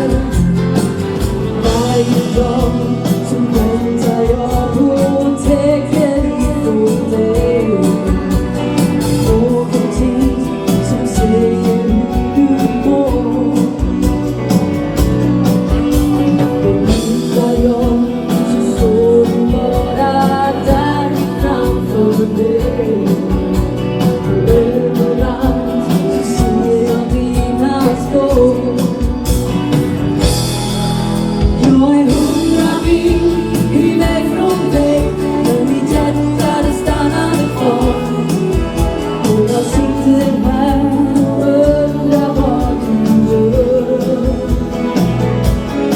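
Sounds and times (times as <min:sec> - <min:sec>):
woman singing: 0:00.0 - 0:14.7, 0:15.5 - 0:29.8, 0:31.4 - 0:45.9
live dance band music: 0:00.0 - 0:45.9.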